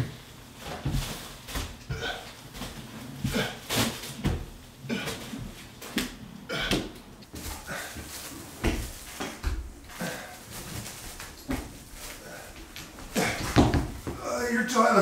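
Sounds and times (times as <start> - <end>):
person crawling on wooden floor: 0.0 - 14.4
paper rolls bumping on boards: 0.6 - 14.3.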